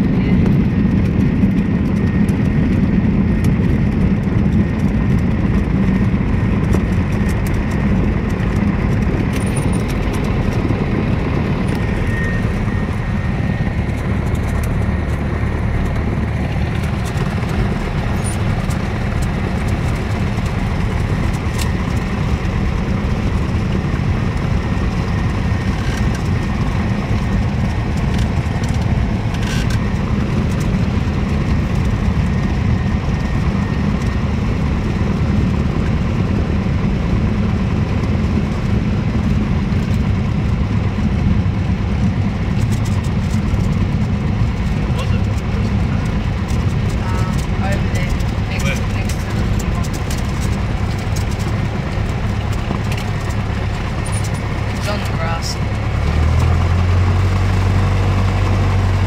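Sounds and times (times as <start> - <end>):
aircraft engine drone from cabin: 0.0 - 59.0.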